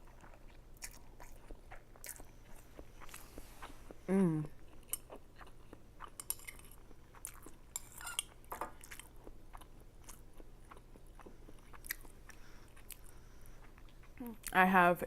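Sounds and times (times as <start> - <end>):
chewing and mouth sounds: 0.0 - 14.6.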